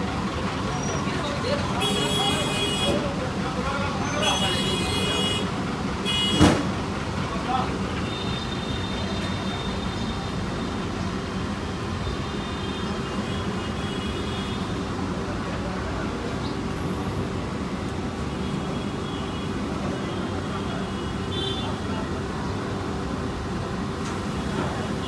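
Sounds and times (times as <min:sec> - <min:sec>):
busy street traffic: 0:00.0 - 0:25.0.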